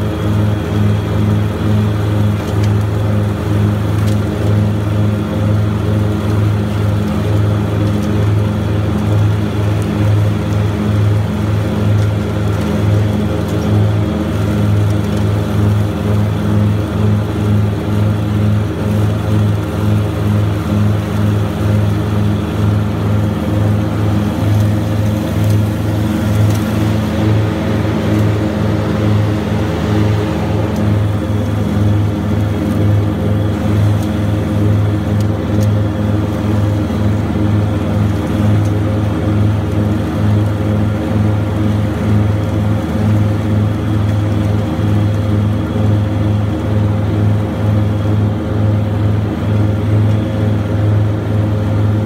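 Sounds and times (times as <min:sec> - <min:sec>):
blower rushing air: 0:00.0 - 0:52.0
mower engine drone: 0:00.0 - 0:52.0.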